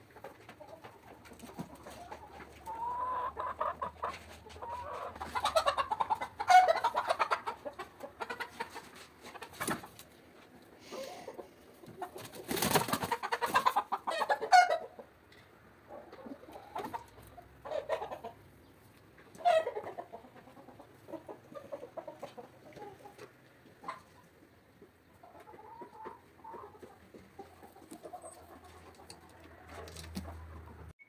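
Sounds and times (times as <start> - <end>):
hen clucking: 0.0 - 30.9.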